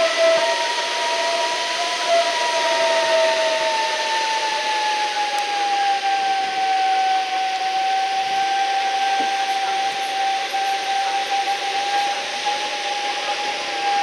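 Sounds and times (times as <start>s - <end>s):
blizzard wind whistling: 0.0s - 14.0s.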